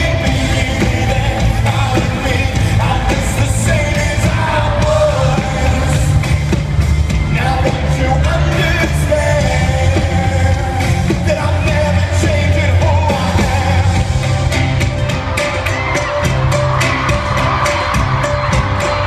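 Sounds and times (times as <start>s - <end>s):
rock band playing live: 0.0s - 19.0s
singer singing: 0.0s - 19.0s.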